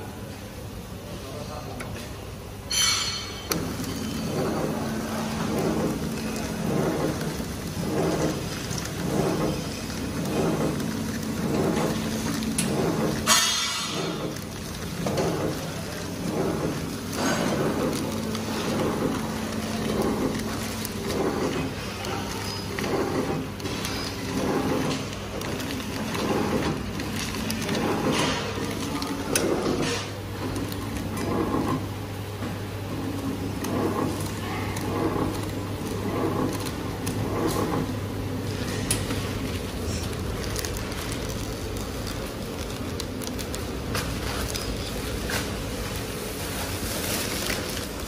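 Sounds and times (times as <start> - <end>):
packing machine humming and clattering: 0.0 - 48.0.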